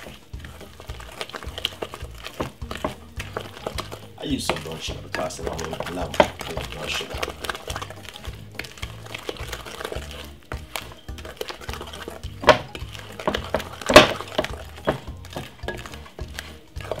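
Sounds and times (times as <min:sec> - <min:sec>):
background music with bass beat: 0:00.0 - 0:17.0
spoon stirring batter in bowl: 0:00.0 - 0:17.0.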